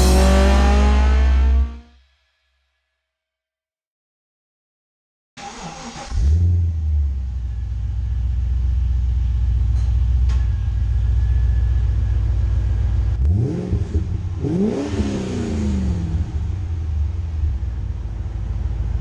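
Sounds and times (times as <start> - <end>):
car engine idling and revving: 0.0 - 1.9, 5.4 - 19.0.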